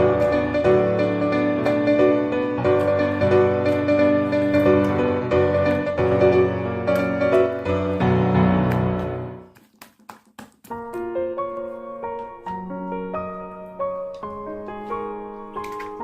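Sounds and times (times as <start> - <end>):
piano music: 0.0 - 9.6, 10.6 - 16.0.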